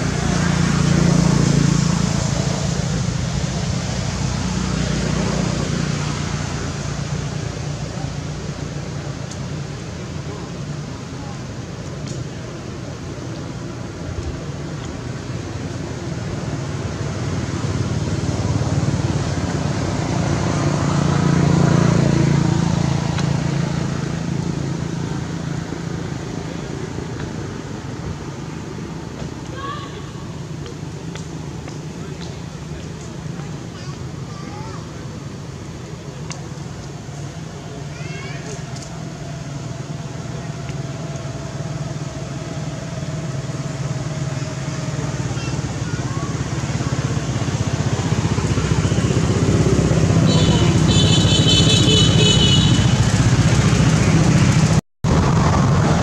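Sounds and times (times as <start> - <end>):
vehicle engine hum passing: 0.0 - 56.0.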